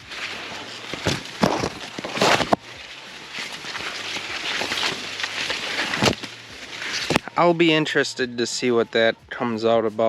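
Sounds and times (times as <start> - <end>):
corn leaves rustling and crackling: 0.0 - 9.1.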